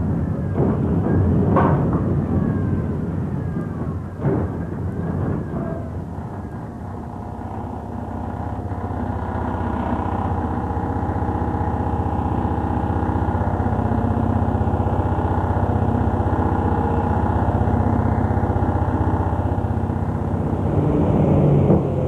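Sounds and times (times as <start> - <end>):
tram clank: 0.0 - 10.4, 13.0 - 22.0
tram electric motor hum: 0.0 - 22.0.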